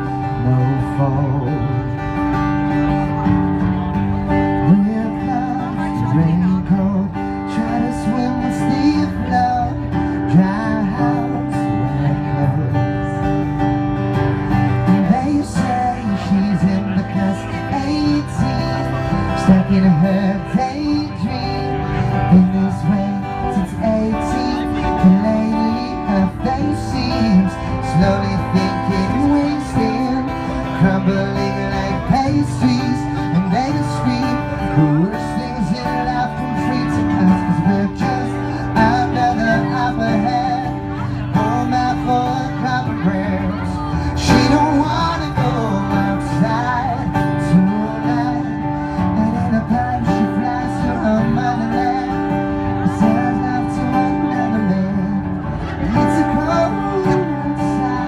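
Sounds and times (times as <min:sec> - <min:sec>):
acoustic guitar strumming: 0:00.0 - 0:58.0
man singing: 0:00.0 - 0:58.0.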